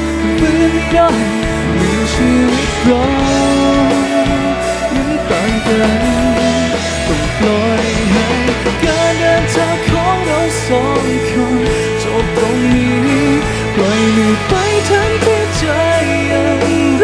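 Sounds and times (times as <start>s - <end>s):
drum kit with cymbals: 0.0s - 17.0s
pop-rock band playing live: 0.0s - 17.0s.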